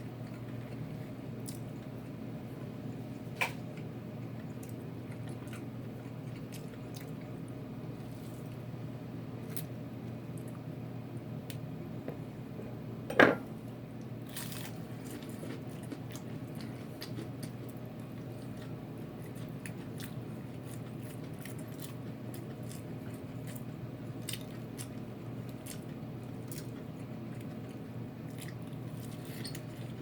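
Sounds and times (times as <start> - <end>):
steady low hum: 0.0 - 30.0
chewing crispy fried chicken: 0.1 - 10.8, 13.7 - 30.0.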